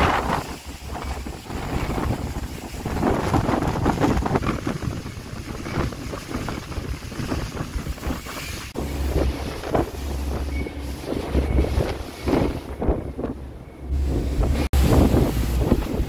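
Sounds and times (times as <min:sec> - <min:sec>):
boat engine drone: 0:00.0 - 0:16.0
churning water: 0:00.0 - 0:16.0
wind buffeting microphone: 0:00.0 - 0:16.0.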